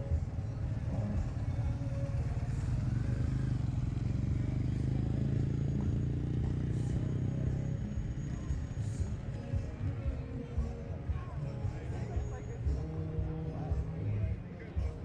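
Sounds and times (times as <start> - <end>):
vehicle engine rumbling: 0.0 - 15.0
voices: 0.0 - 15.0.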